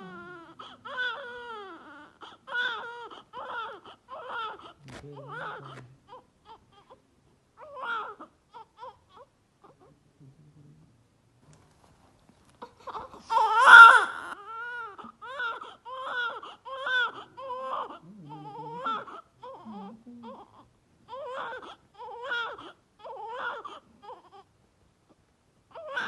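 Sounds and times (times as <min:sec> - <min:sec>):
newborn baby crying: 0:00.0 - 0:07.0, 0:07.6 - 0:09.9, 0:12.6 - 0:24.5, 0:25.7 - 0:26.0.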